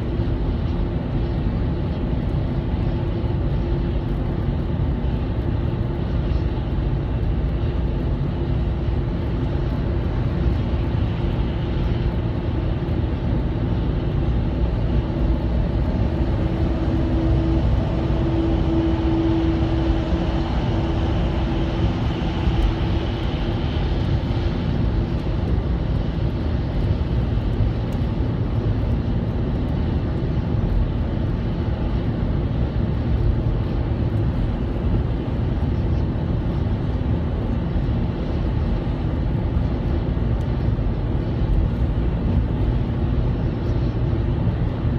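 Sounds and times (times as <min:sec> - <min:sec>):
engine and road noise drone: 0:00.0 - 0:44.9
hum: 0:00.0 - 0:44.9.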